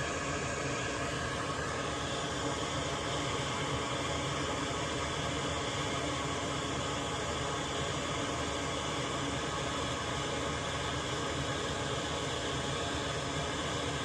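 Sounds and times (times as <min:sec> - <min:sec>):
fan motor whirring: 0:00.0 - 0:14.0.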